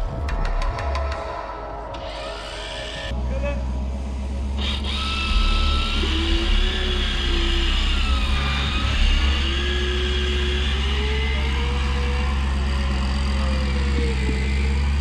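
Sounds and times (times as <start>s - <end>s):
whine rising and falling: 0.0s - 15.0s
engine running and revving: 2.0s - 15.0s.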